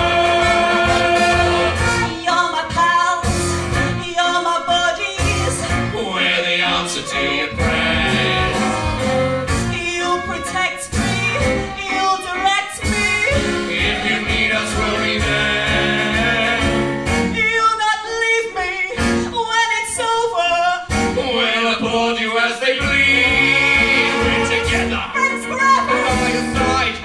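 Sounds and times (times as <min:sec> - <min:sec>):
musical theatre singing: 0:00.0 - 0:27.0.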